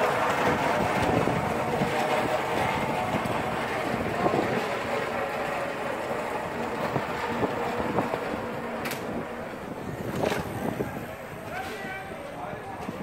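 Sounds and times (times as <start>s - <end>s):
distant voices: 0.0s - 13.0s
traffic noise: 0.0s - 13.0s
wind on microphone: 0.0s - 13.0s.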